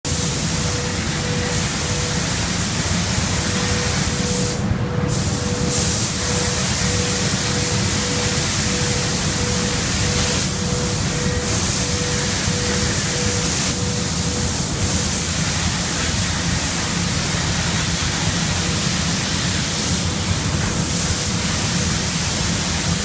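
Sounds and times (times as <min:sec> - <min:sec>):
machine hum: 0:00.0 - 0:23.0
spray gun hissing: 0:00.1 - 0:22.9.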